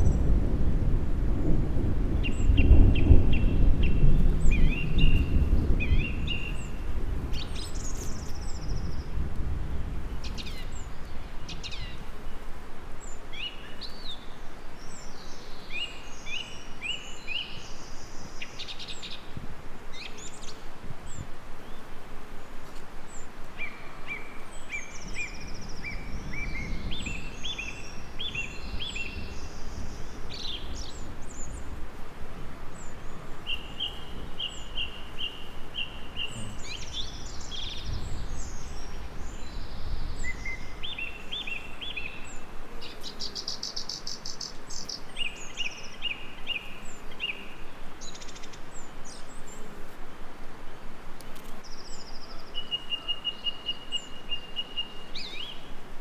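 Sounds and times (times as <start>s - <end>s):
songbirds chirping and trilling: 1.7s - 31.8s, 32.4s - 55.9s.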